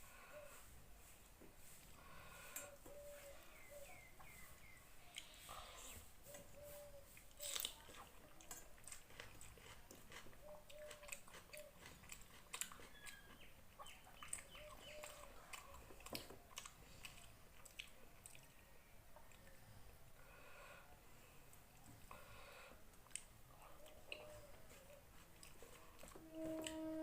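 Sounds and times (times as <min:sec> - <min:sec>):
close-up chewing sounds: 0:01.8 - 0:20.2, 0:21.4 - 0:27.0.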